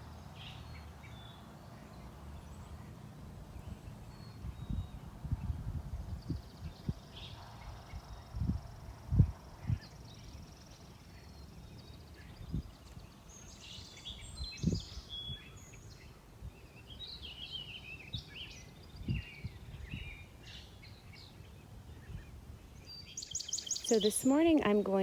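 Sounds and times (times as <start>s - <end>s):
faint background noise: 0.0s - 25.0s
songbirds singing and chirping: 0.0s - 25.0s.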